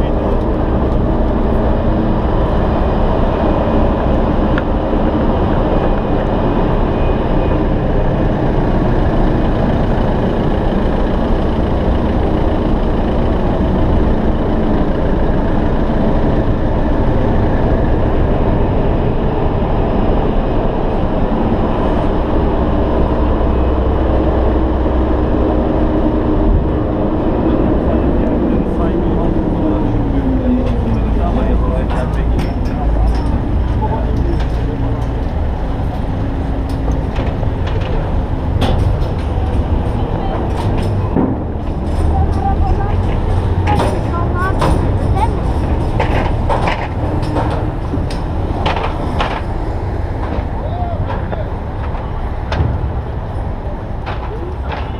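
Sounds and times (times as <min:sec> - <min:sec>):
ship diesel engines droning: 0:00.0 - 0:54.9.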